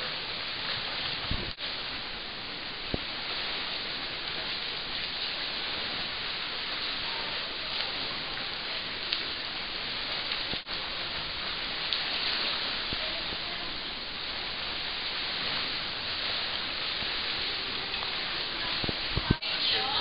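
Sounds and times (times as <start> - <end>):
swimmers splashing water: 0.0 - 20.0.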